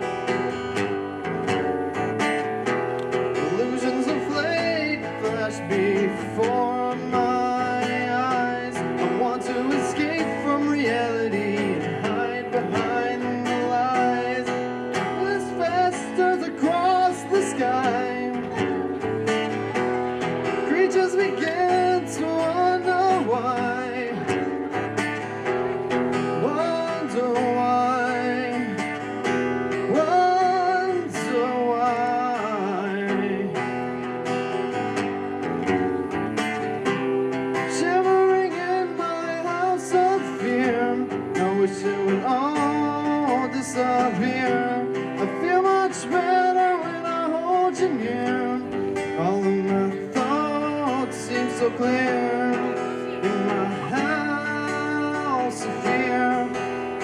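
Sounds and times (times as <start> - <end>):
acoustic guitar: 0.0 - 57.0
man singing: 3.1 - 35.1, 37.5 - 57.0.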